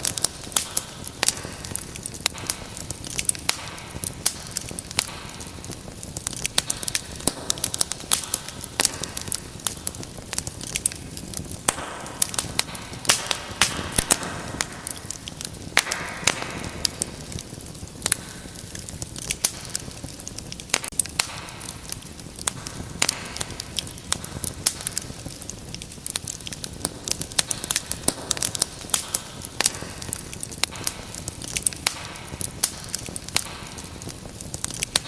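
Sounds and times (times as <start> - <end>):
flames hissing: 0.0 - 35.0
wood fire crackling and popping: 0.0 - 35.0.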